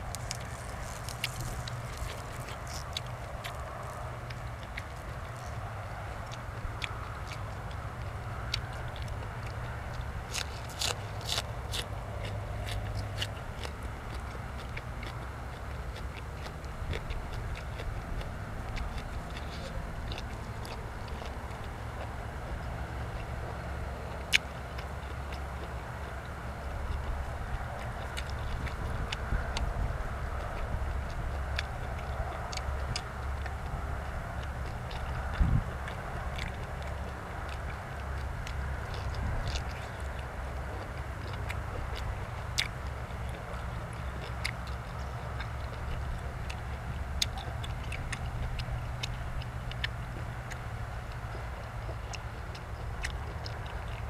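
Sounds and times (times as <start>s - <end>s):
low steady rumble: 0.0s - 54.0s
person chewing food: 0.0s - 54.0s.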